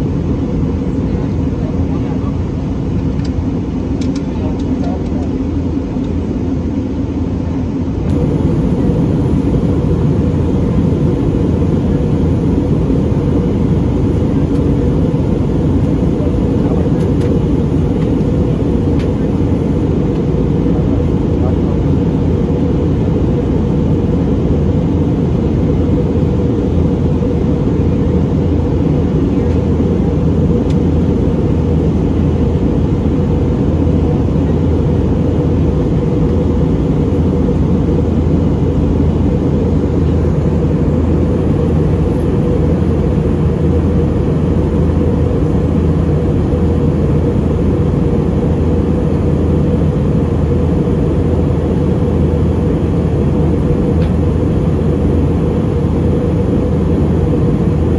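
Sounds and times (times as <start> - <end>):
airplane cabin drone: 0.0 - 57.9.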